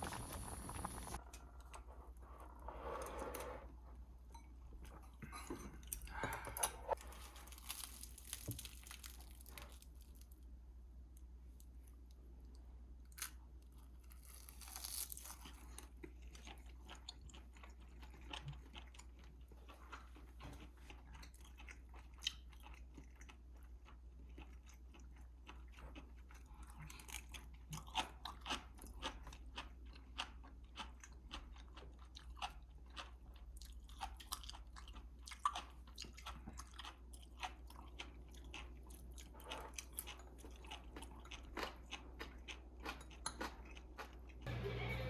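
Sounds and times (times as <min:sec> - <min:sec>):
person chewing crunchy food: 0:00.0 - 0:01.9, 0:05.9 - 0:10.4, 0:13.1 - 0:44.5.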